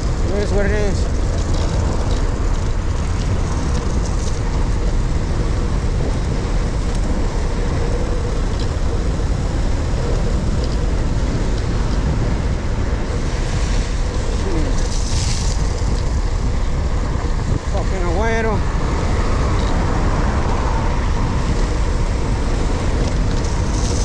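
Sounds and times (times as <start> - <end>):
passing vehicles: 0.0 - 24.0
wind rumble on microphone: 0.0 - 24.0.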